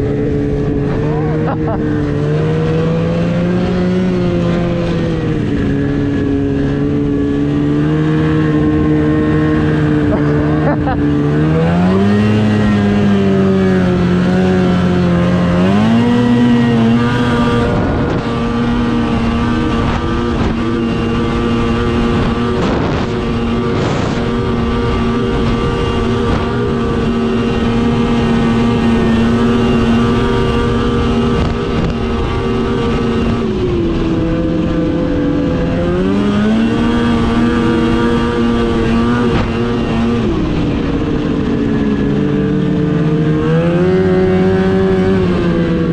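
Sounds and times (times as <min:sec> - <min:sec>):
snowmobile engine revving: 0:00.0 - 0:45.9.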